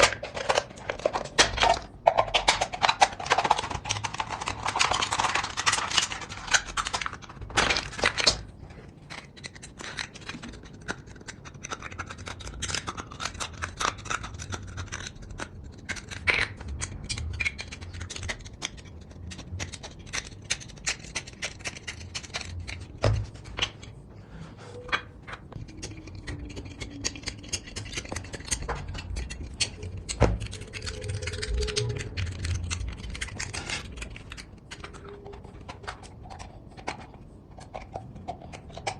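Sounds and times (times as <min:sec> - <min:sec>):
aluminium pieces scraping and clicking: 0:00.0 - 0:24.0, 0:24.8 - 0:38.9.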